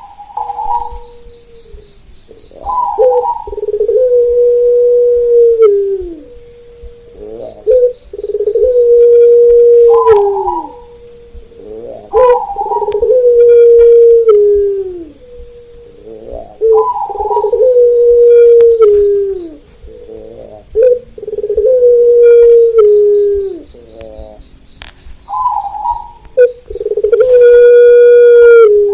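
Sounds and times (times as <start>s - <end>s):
dove cooing: 0.0s - 28.9s
high pulsing insect trill: 0.0s - 28.9s.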